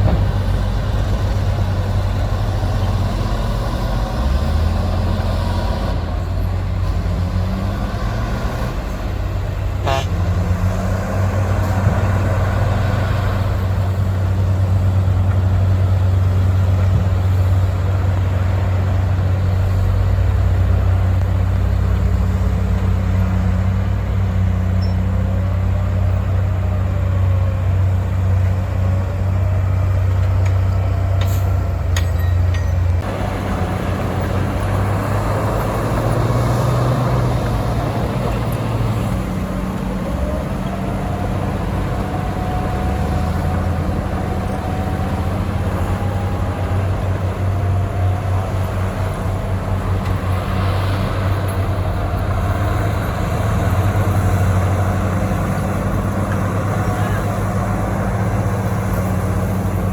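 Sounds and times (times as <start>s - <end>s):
heavy diesel engines droning: 0.0s - 59.9s.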